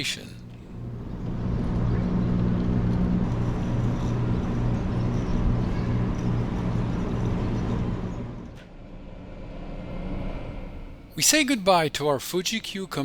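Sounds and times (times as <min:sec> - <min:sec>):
electric train humming and rumbling: 0:00.0 - 0:13.0.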